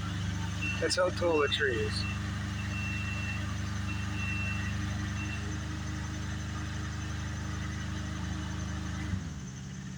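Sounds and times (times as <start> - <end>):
large engine humming: 0.0 - 9.9.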